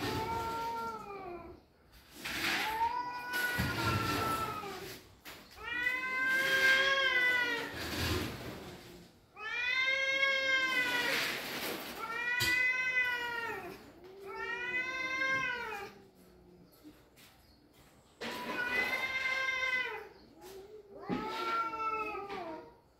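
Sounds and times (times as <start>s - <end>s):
cats yowling: 0.0s - 1.6s, 2.4s - 5.0s, 5.6s - 8.4s, 9.3s - 16.5s, 18.2s - 22.7s.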